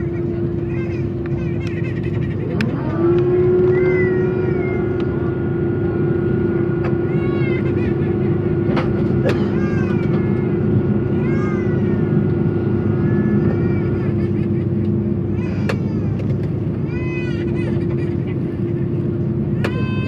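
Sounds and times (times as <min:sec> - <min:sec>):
aircraft engine drone: 0:00.0 - 0:20.0.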